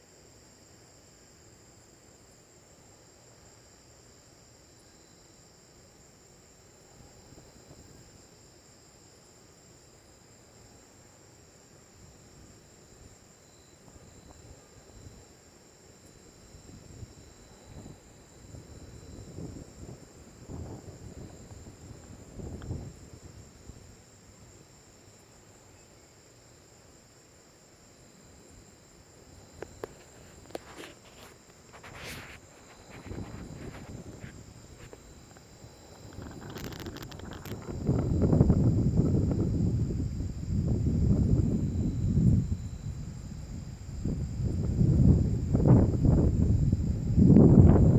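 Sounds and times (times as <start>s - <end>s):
crickets trilling: 0.0s - 47.9s
rustling hiss: 0.0s - 47.9s.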